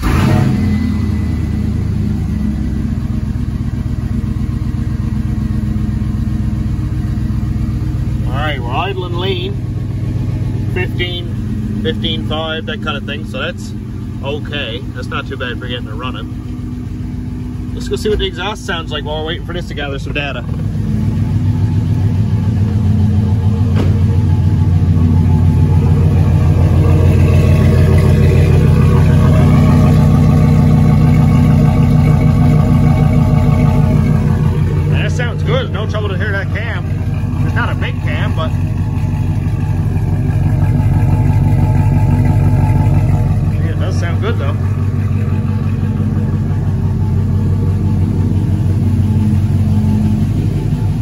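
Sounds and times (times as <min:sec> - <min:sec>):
engine exhaust idling: 0:00.0 - 0:51.0.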